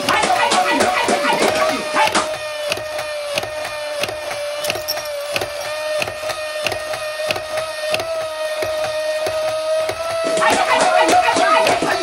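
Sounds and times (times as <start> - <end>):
small electric motor whining: 0.0 - 12.0
toy mechanism clacking: 0.0 - 12.0.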